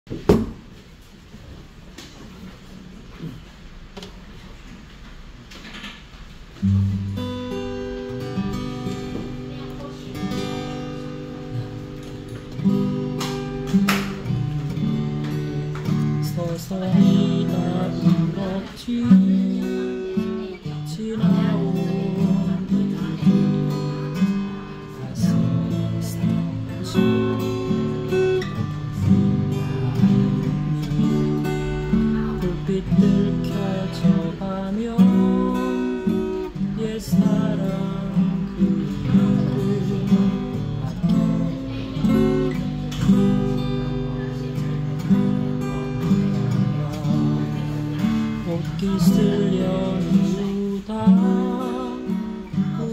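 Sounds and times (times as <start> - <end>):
acoustic guitar picking and strumming: 2.2 - 52.9.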